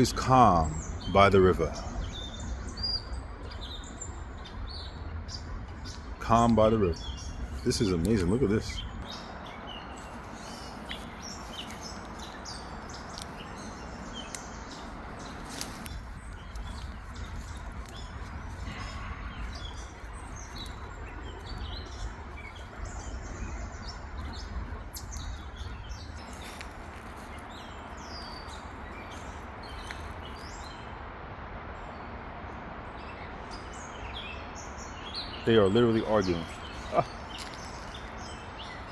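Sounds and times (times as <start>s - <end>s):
birds chirping: 0.0s - 30.9s, 32.6s - 38.9s.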